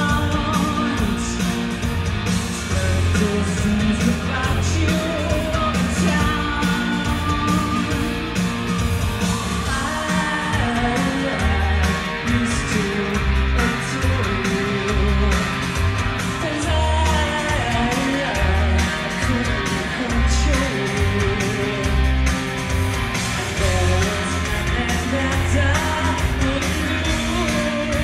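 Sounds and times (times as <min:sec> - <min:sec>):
woman singing: 0:00.0 - 0:01.5, 0:02.6 - 0:08.4, 0:09.6 - 0:15.6, 0:16.3 - 0:22.0, 0:23.6 - 0:28.0
heavy pulsing bass line: 0:00.0 - 0:28.0
rock band playing: 0:00.0 - 0:28.0.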